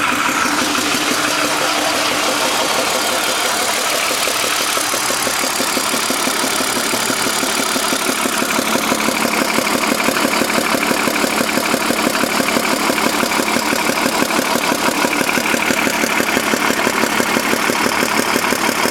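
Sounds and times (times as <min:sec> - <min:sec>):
car engine idling with rhythmic ticking: 0:00.0 - 0:18.9.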